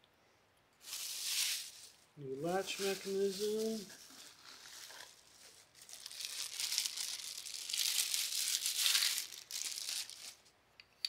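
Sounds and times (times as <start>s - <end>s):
packaging crinkling and tearing: 0.8s - 10.5s.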